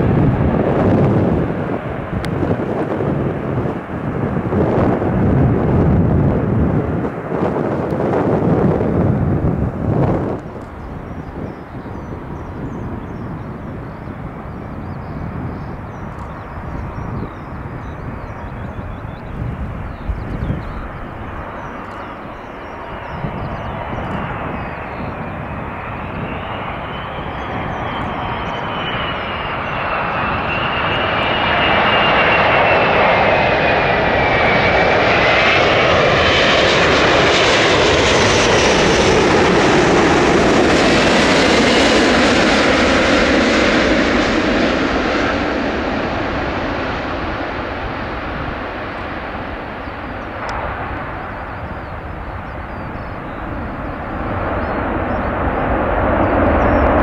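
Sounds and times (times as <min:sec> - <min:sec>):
high engine whine: 0:00.0 - 0:57.0
jet airliner passing: 0:00.0 - 0:57.0.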